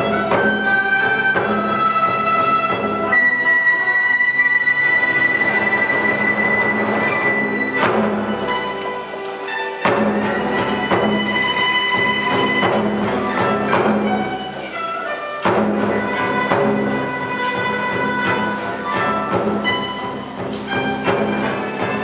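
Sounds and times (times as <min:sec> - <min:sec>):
bamboo flute long high notes: 0:00.0 - 0:22.0
plucked zithers: 0:00.0 - 0:22.0.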